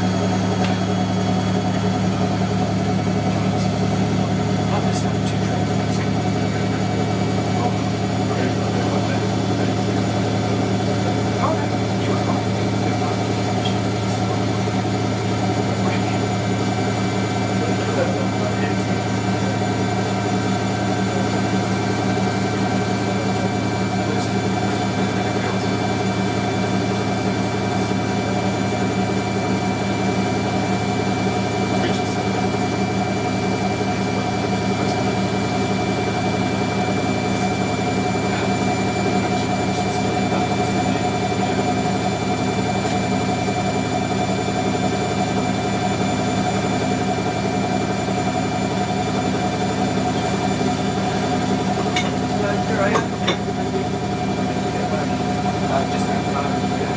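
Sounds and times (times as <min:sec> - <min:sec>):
washing machine spinning: 0:00.0 - 0:56.9.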